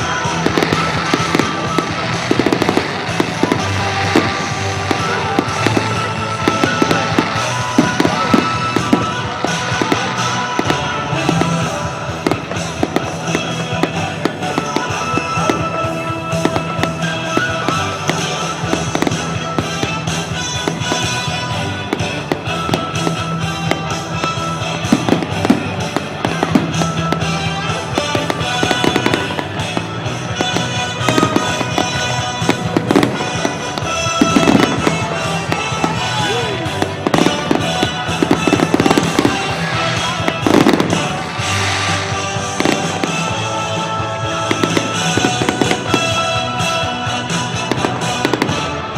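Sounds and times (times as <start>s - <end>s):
fireworks bangs and crackles: 0.0s - 48.9s
music playing: 0.0s - 48.9s.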